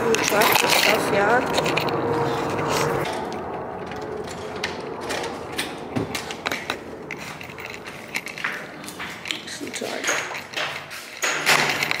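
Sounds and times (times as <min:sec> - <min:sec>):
objects knocking and clicking: 0:00.0 - 0:02.0, 0:03.0 - 0:12.0.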